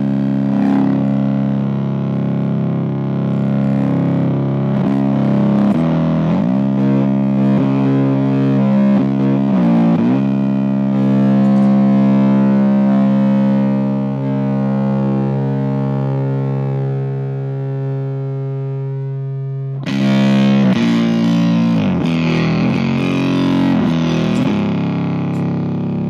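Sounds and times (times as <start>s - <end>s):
distorted guitar tremolo drone: 0.0s - 26.0s.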